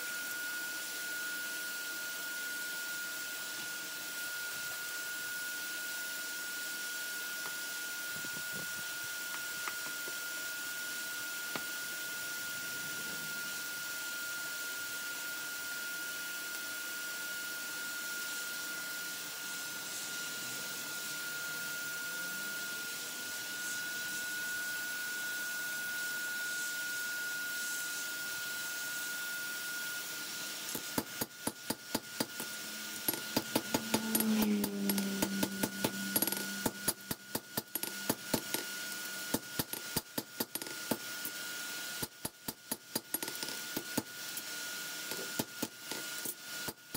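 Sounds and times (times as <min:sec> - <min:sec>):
steady high whine with hiss: 0:00.0 - 0:46.9.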